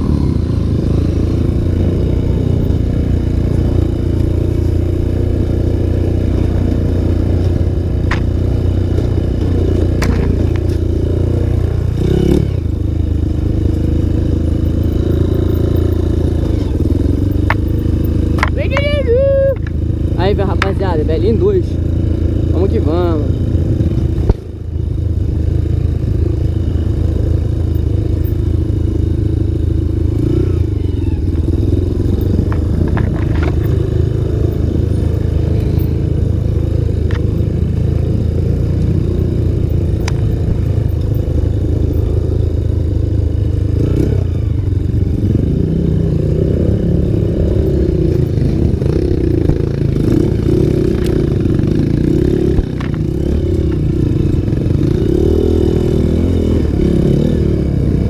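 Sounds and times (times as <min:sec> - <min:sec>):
trail motorcycle engine running: 0:00.0 - 0:58.0.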